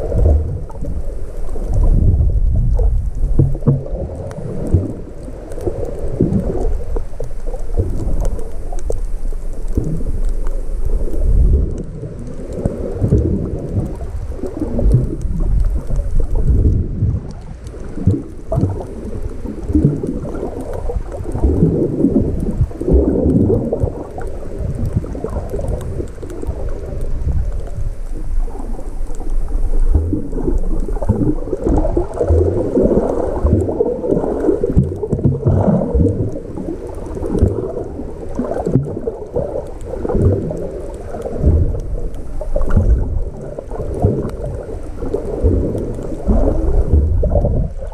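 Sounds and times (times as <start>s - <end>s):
underwater water rumbling and sloshing: 0.0s - 47.9s.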